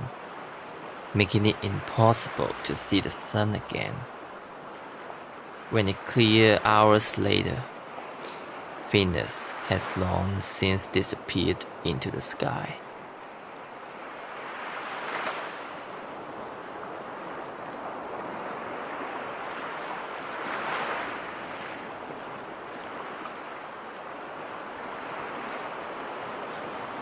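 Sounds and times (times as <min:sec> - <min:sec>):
sea surf washing in: 0:00.0 - 0:27.0.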